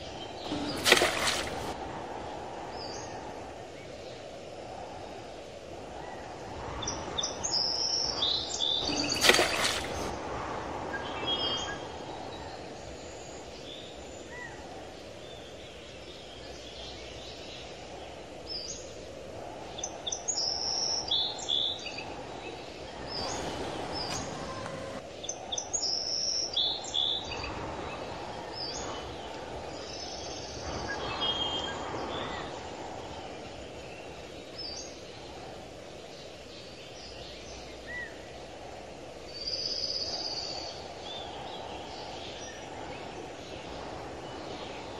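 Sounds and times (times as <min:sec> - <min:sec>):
outdoor background noise: 0:00.0 - 0:44.9
small birds chirping: 0:00.0 - 0:44.9.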